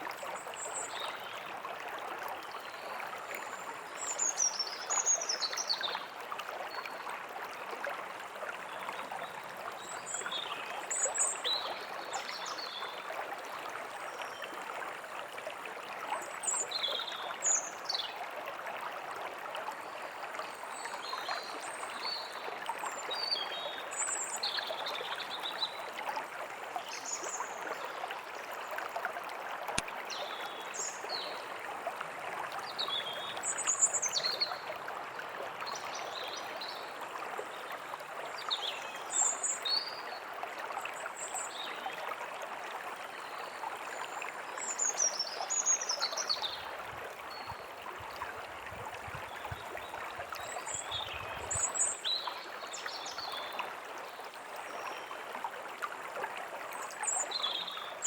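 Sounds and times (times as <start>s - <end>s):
stream burbling: 0.0s - 58.0s.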